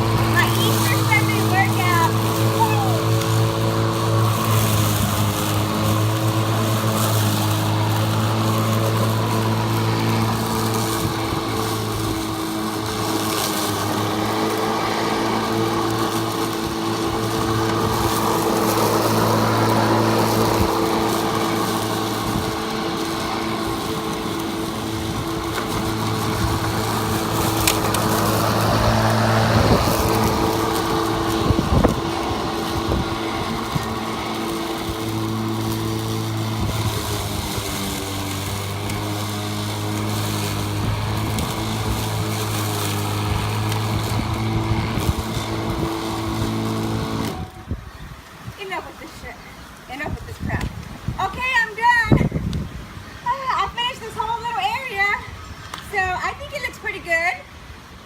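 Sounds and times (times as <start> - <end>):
electric lawn mower cutting grass: 0.0 - 58.0.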